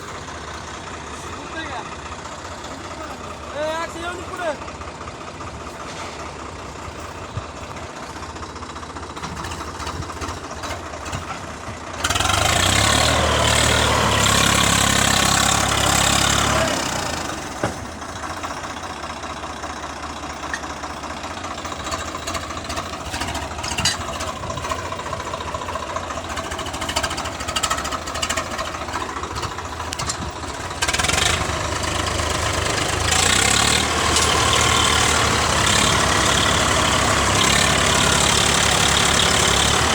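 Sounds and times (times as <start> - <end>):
tractor diesel engines revving: 0.0 - 39.9.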